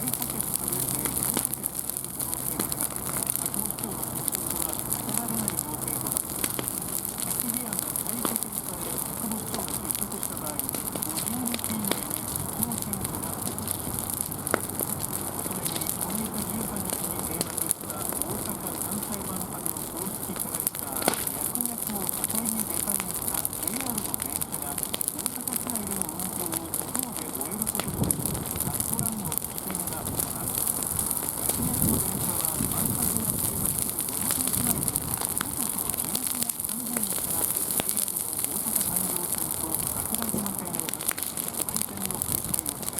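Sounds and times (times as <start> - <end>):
fire pops: 0.0 - 42.9
wood fire crackling: 0.0 - 42.9.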